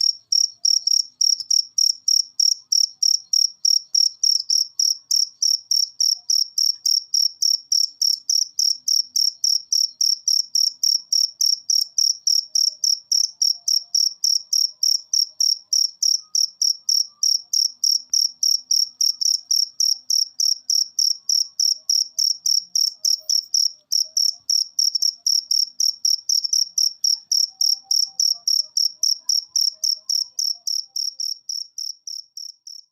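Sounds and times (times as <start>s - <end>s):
cricket chirping: 0.0s - 32.9s.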